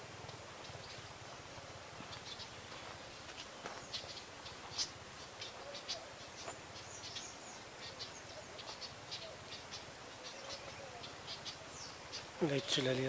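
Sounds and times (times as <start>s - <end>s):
birds and insects chirping: 0.0s - 13.0s.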